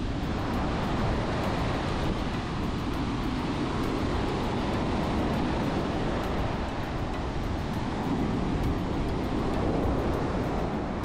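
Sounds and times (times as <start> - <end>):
surf washing onto beach: 0.0 - 11.0
wind on microphone: 0.0 - 11.0.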